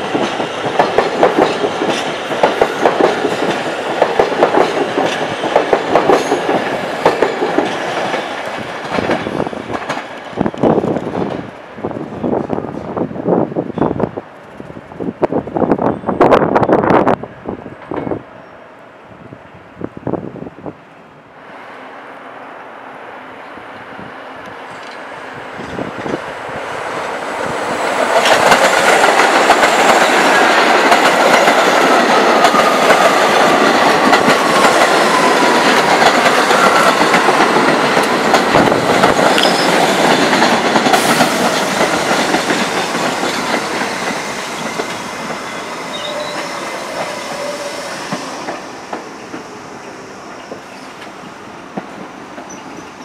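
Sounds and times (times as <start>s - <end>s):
subway train running: 0.0s - 53.0s.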